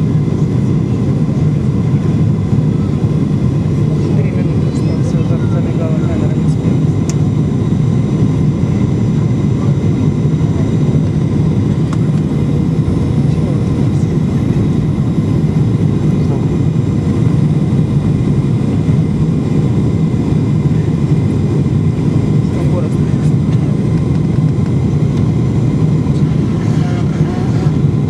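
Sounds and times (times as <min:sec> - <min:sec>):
jet engine and airflow rush: 0:00.0 - 0:28.0.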